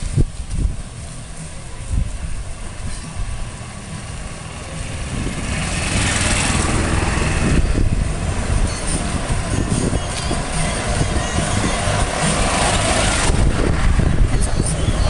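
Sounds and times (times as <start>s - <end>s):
motor engine drone: 0.0s - 15.0s
rushing hiss: 0.0s - 15.0s.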